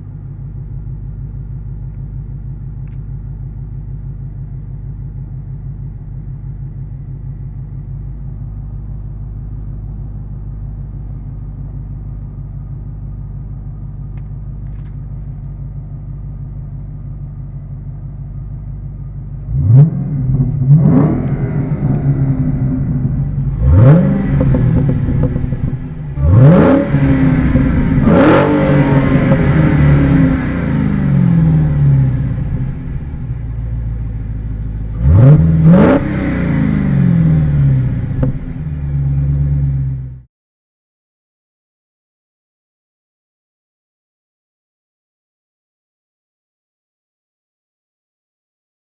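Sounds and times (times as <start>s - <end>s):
car engine idling and revving: 0.0s - 40.3s.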